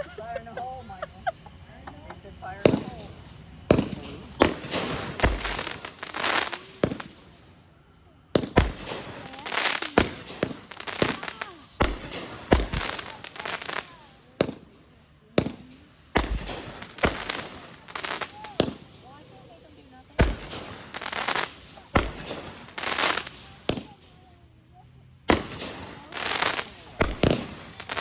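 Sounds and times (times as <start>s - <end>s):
fireworks banging: 0.0s - 28.0s
fireworks crackling: 0.0s - 28.0s.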